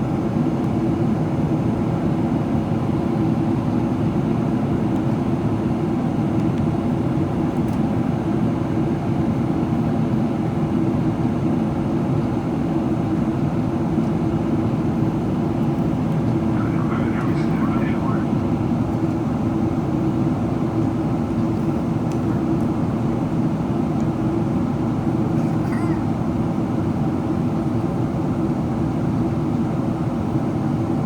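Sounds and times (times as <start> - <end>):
airplane cabin airflow and engine noise: 0.0 - 31.0.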